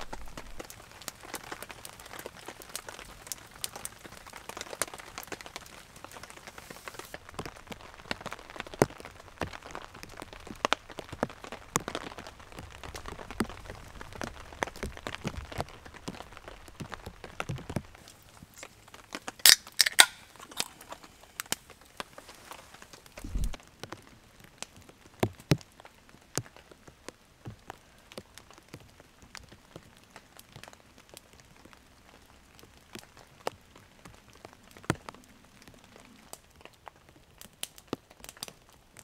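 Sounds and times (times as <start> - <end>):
campfire crackling: 0.0 - 39.0
rain pattering on a tarp: 0.0 - 39.0.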